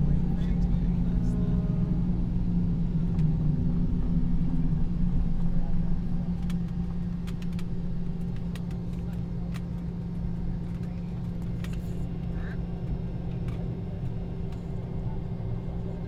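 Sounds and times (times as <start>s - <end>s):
jet engines idling drone: 0.0s - 16.0s
low rumble: 0.0s - 16.0s.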